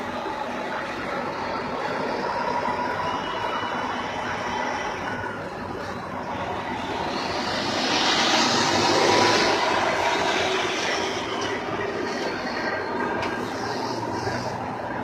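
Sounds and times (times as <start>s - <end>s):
vehicle engine noise: 0.0s - 15.0s.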